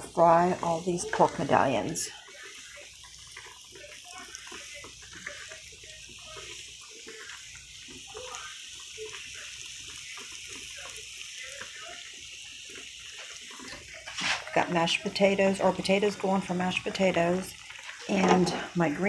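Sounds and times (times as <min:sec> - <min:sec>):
faint crackles: 0:00.0 - 0:19.0
meat sizzling in hot oil: 0:00.0 - 0:19.0.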